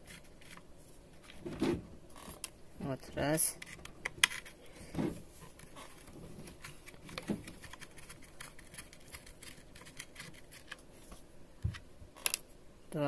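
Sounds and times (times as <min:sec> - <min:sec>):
small clicks and scrapes: 0:00.0 - 0:02.6, 0:03.6 - 0:12.5.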